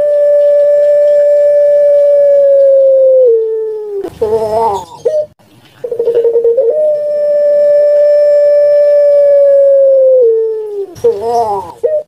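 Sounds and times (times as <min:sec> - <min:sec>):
dove giving long kwok call: 0:00.0 - 0:12.0.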